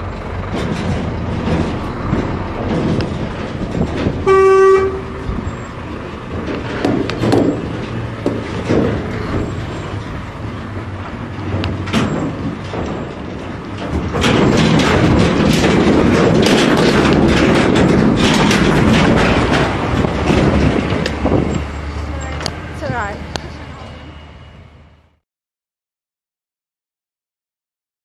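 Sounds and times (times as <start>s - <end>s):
lorry engine running: 0.0s - 25.2s
metal trailer rattling: 0.0s - 25.2s.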